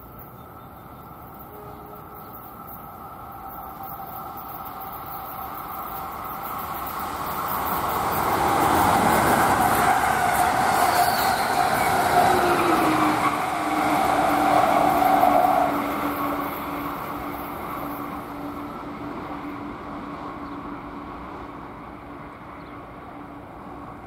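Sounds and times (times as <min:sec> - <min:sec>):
passenger train passing: 0:00.0 - 0:24.0.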